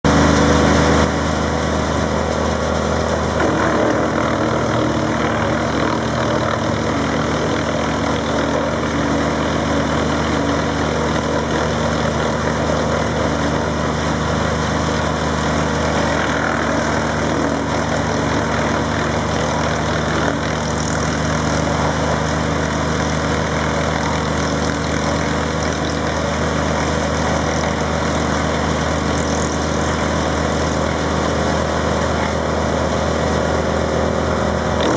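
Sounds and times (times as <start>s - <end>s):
wood chipper running: 0.0s - 34.9s.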